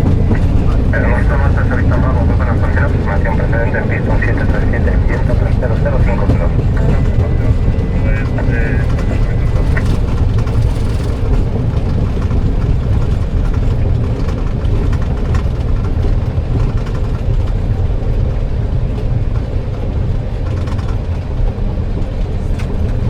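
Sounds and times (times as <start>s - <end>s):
aircraft rolling along runway: 0.0s - 23.0s.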